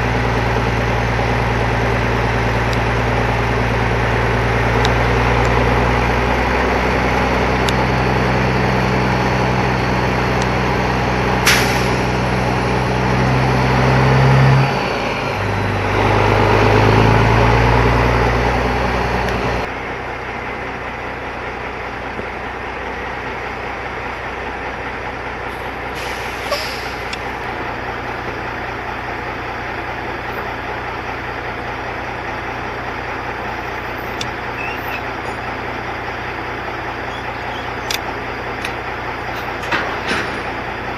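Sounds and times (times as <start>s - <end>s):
diesel truck engine pulling: 0.0s - 40.9s.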